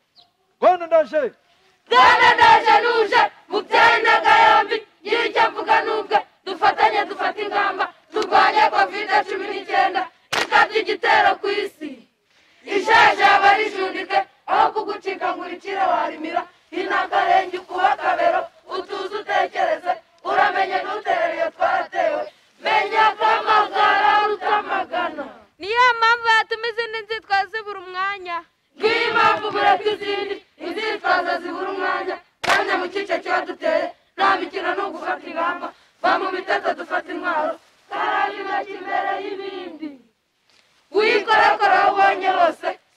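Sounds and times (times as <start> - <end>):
young voices chanting in unison: 1.7 - 25.6, 28.7 - 40.2, 40.9 - 42.9.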